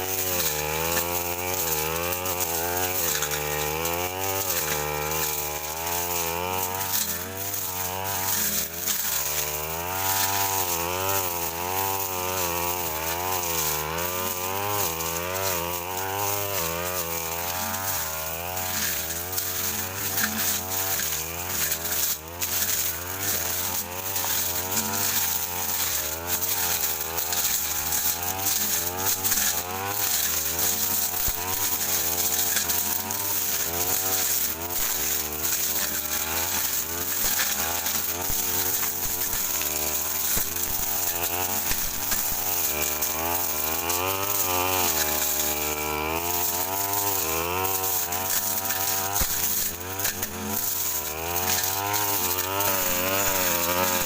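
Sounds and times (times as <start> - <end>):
blade striking brush: 0.0 - 54.0
brush cutter engine: 0.0 - 54.0.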